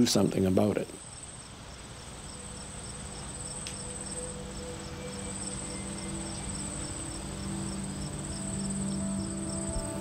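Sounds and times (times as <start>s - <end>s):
insect chirping: 0.0s - 10.0s
insects trilling: 0.0s - 10.0s.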